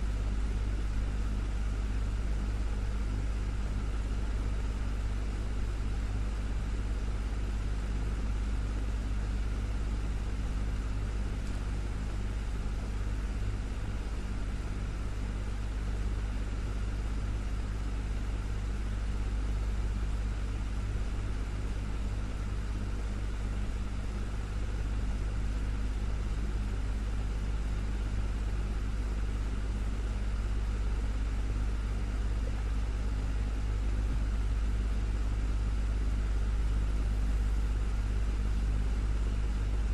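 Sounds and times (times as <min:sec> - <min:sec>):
desktop fan running: 0:00.0 - 0:39.9.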